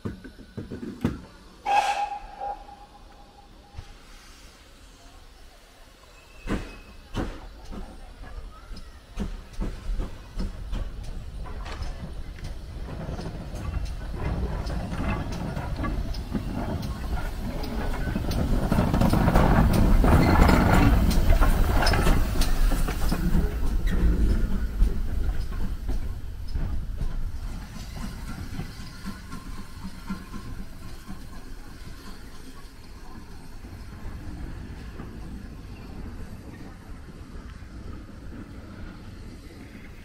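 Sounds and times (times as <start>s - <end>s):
sharp clicks from train wheels: 0.0s - 4.0s, 6.0s - 40.0s
steam locomotive rumble: 0.0s - 40.0s.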